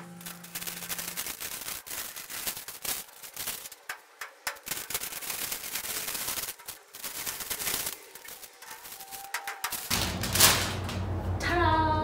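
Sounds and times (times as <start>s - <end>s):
paper crackling and rustling: 0.0s - 11.1s.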